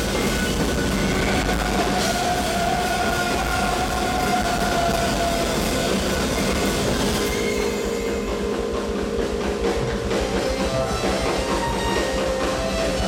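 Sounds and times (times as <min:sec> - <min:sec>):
drum kits playing: 0:00.0 - 0:13.0.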